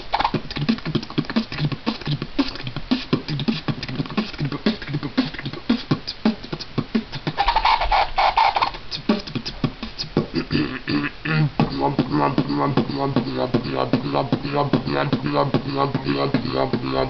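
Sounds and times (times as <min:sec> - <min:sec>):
beatboxing: 0:00.0 - 0:17.0.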